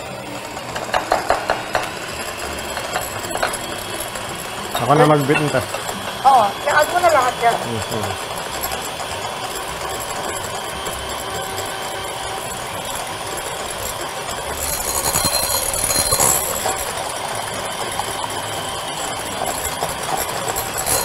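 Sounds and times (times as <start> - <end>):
electric hand mixer whirring: 0.0 - 21.0
whisk beating against glass bowl: 0.8 - 21.0.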